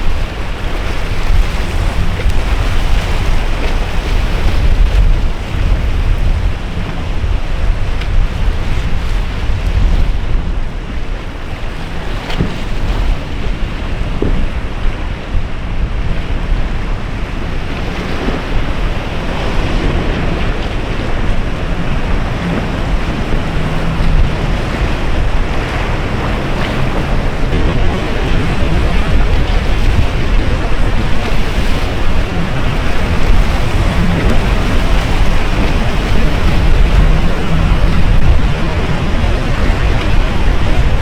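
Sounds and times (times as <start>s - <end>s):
faint boat engine: 0.0s - 41.0s
waves and surf churning: 0.0s - 41.0s
wind buffeting microphone: 0.0s - 41.0s.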